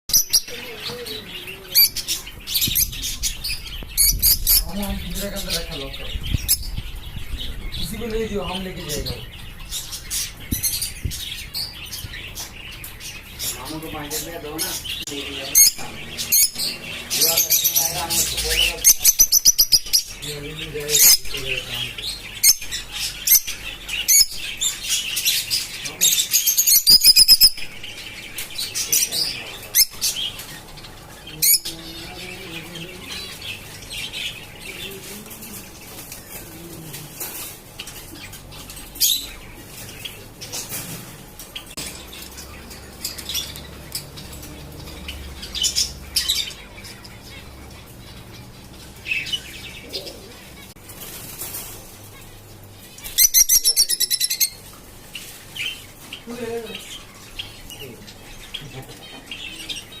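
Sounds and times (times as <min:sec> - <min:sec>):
canary chirping: 0:00.1 - 1:00.0.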